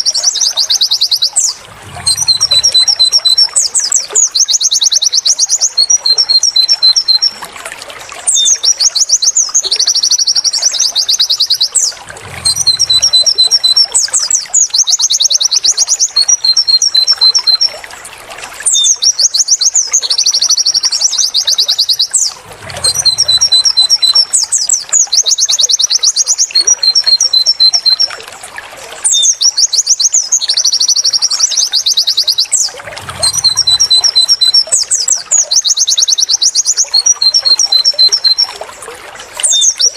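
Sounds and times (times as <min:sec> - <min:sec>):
bird song trills: 0:00.0 - 0:07.4, 0:08.3 - 0:17.8, 0:18.6 - 0:28.2, 0:29.0 - 0:38.6, 0:39.4 - 0:39.9.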